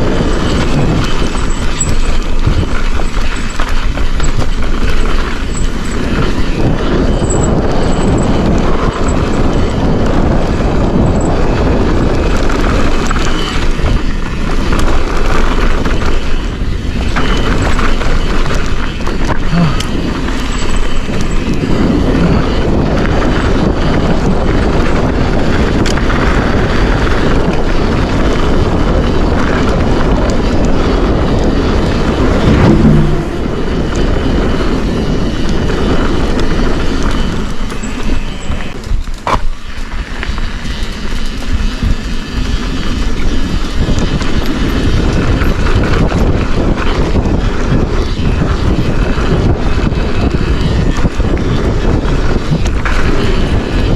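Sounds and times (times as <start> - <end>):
bike rattle and tyre noise: 0.0 - 53.9
wind rushing over microphone: 0.0 - 53.9.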